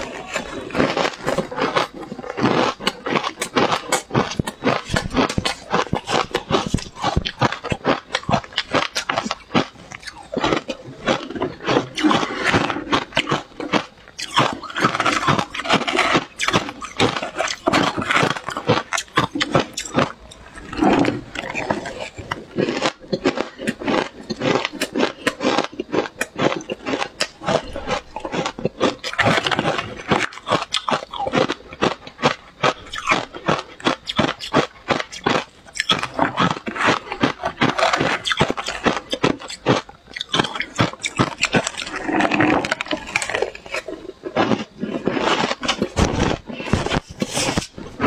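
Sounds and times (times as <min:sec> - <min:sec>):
ice crunching being chewed: 0:00.0 - 0:48.0.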